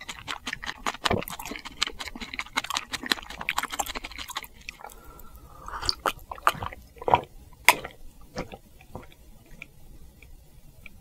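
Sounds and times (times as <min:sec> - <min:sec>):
mouth chewing food: 0:00.0 - 0:09.7.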